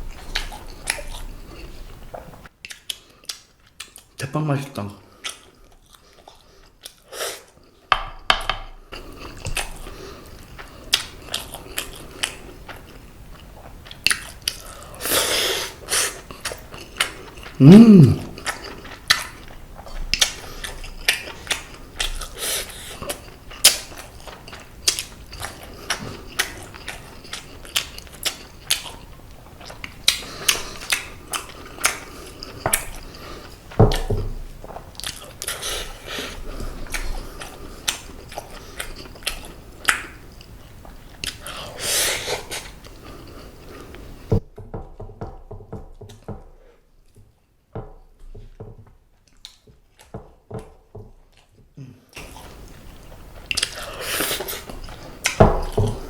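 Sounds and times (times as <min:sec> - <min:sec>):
close chewing with mouth clicks: 0:00.0 - 0:04.2, 0:05.0 - 0:07.9, 0:08.9 - 0:17.6, 0:18.2 - 0:44.4, 0:49.1 - 0:56.0.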